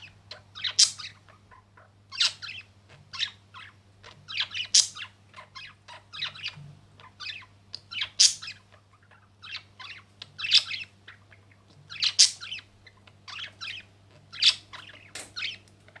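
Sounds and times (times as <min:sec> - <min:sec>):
bird chirping and squawking: 0:00.0 - 0:15.6
faint low hum: 0:00.0 - 0:16.0.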